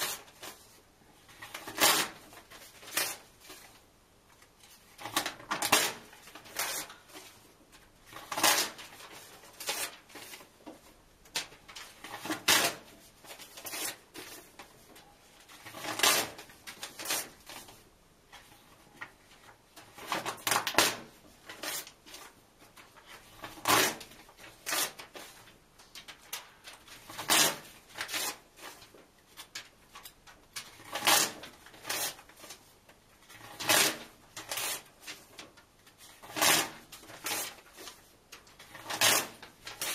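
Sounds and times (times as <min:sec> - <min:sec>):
paper pages tearing: 0:01.3 - 0:03.7, 0:05.0 - 0:07.4, 0:08.1 - 0:10.5, 0:11.4 - 0:14.7, 0:15.5 - 0:17.7, 0:19.9 - 0:32.7, 0:33.3 - 0:39.9.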